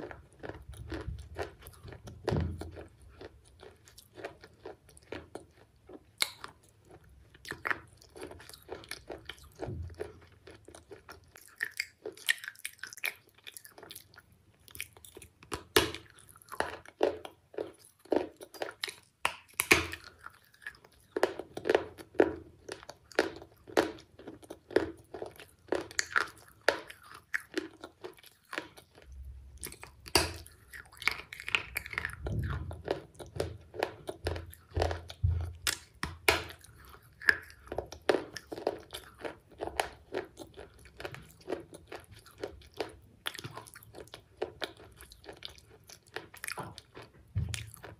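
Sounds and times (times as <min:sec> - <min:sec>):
person chewing crunchy snack: 0:00.0 - 0:47.9.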